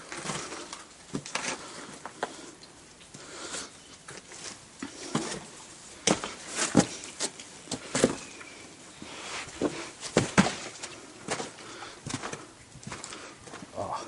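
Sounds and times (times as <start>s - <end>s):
footsteps on wet rocky track: 0.0s - 14.0s.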